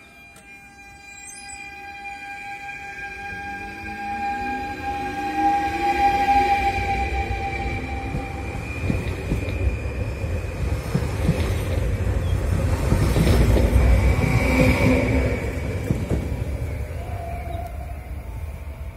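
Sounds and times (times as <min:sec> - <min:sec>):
train rumble: 0:01.8 - 0:18.9.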